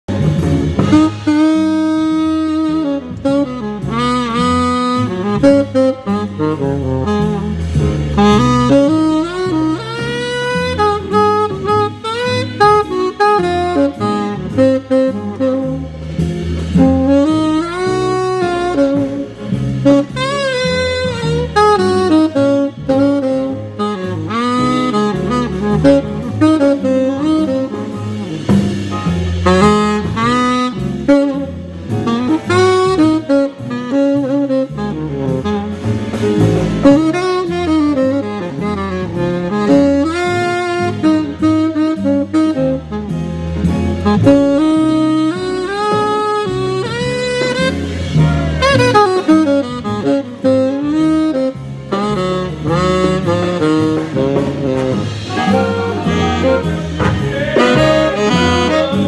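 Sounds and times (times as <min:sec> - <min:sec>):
band low bass line: 0:00.0 - 0:59.0
tenor saxophone blues solo: 0:00.1 - 0:59.0.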